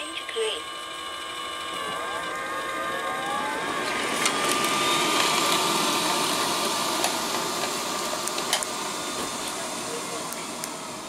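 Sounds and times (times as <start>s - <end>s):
robot vacuum cleaner running: 0.0s - 11.0s.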